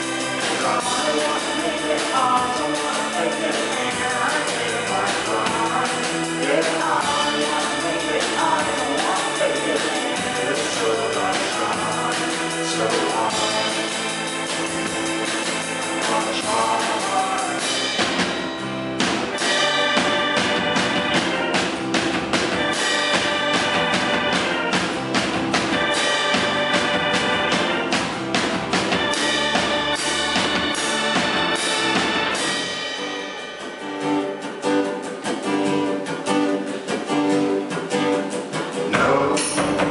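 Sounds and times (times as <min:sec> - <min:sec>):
drums steady beat: 0:00.0 - 0:38.1, 0:38.9 - 0:39.9
sustained guitar chords: 0:00.0 - 0:39.9.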